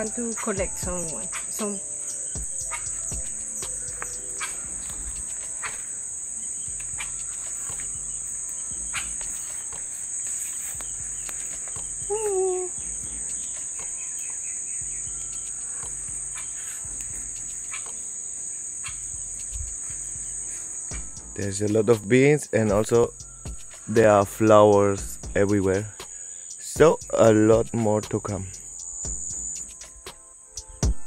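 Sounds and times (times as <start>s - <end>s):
bean plants rustling and clicking: 0.0s - 14.6s, 15.2s - 25.9s
insects droning: 0.0s - 31.0s.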